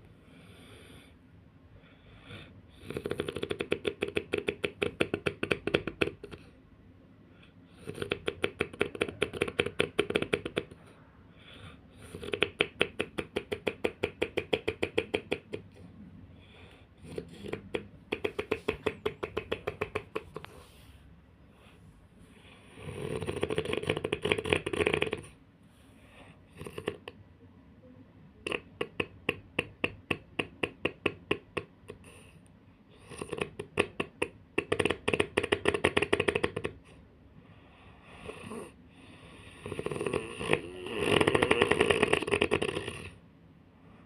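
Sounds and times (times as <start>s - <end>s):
person snoring: 1.9s - 6.6s, 7.4s - 15.8s, 16.4s - 20.9s, 22.2s - 25.4s, 26.1s - 27.2s, 28.4s - 37.0s, 37.9s - 43.2s.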